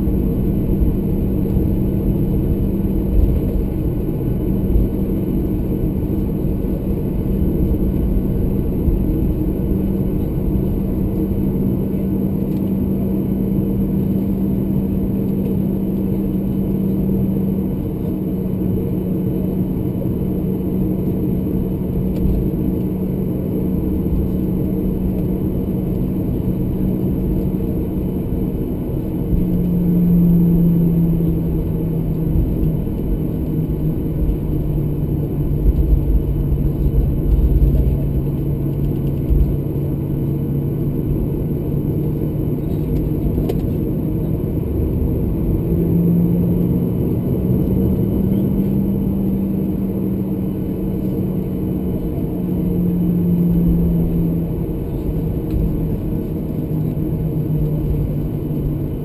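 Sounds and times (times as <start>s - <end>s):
jet engines droning in cabin: 0.0s - 59.0s.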